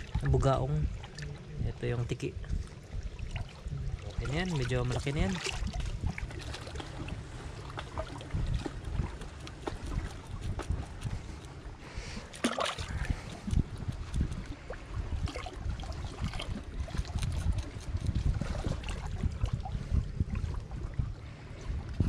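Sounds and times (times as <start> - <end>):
water lapping: 0.0 - 22.0
wind buffeting microphone: 0.0 - 22.0.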